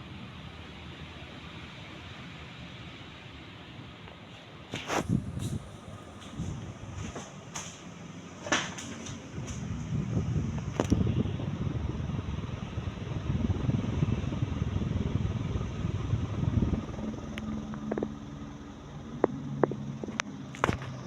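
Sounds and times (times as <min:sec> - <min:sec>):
ceiling fan running: 0:00.0 - 0:21.0.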